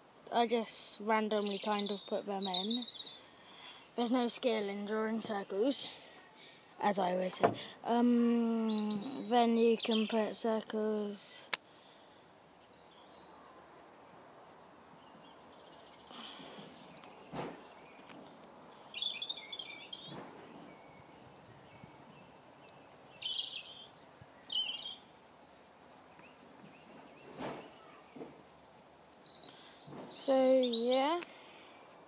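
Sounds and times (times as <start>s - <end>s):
faint background noise: 0.0s - 32.0s
small birds chirping: 0.0s - 32.0s.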